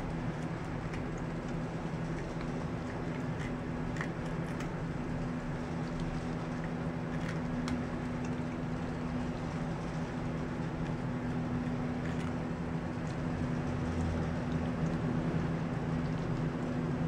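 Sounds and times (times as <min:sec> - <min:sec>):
dog crunching carrot: 0:00.0 - 0:16.1
steady low hum: 0:00.0 - 0:17.0.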